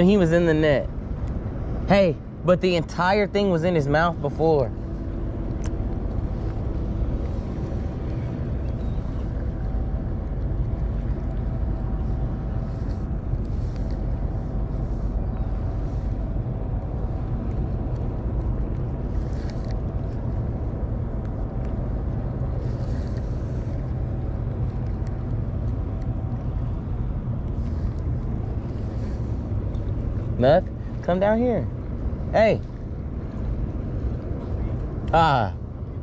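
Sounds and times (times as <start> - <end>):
engine rumble: 0.0 - 36.0.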